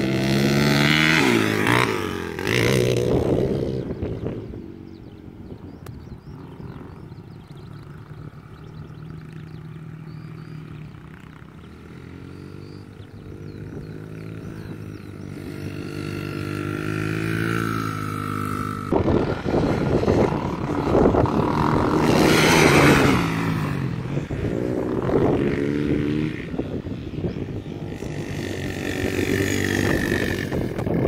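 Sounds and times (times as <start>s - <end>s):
dirt bike engines running: 0.0s - 31.0s.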